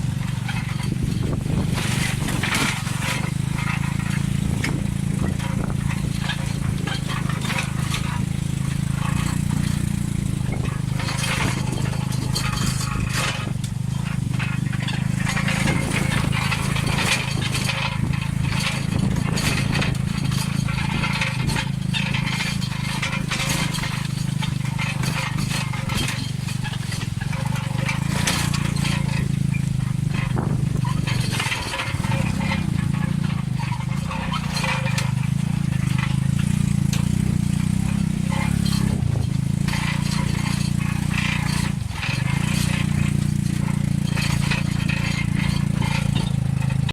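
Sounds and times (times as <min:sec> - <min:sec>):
motorcycle engine running: 0:00.0 - 0:46.9
rattling and knocking: 0:00.0 - 0:46.9.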